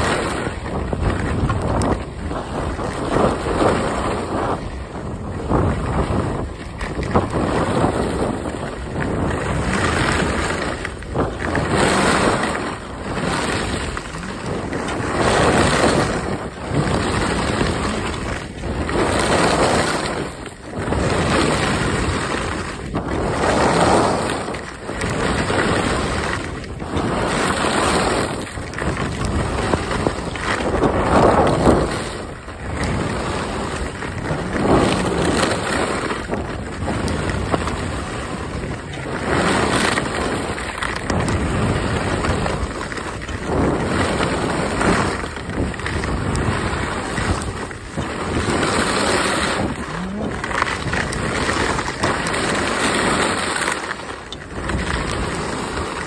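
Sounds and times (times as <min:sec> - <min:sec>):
skis carving on snow: 0:00.0 - 0:56.0
wind on microphone: 0:00.0 - 0:56.0.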